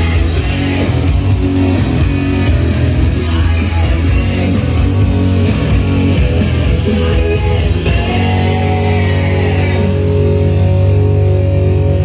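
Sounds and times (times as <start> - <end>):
guitar music over speakers: 0.0 - 12.0
held bass notes: 0.0 - 12.0.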